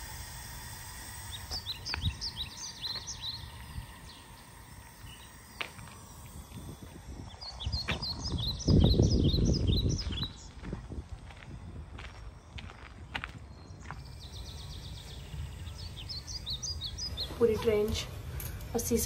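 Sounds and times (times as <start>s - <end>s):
songbirds chirping: 0.1s - 19.0s.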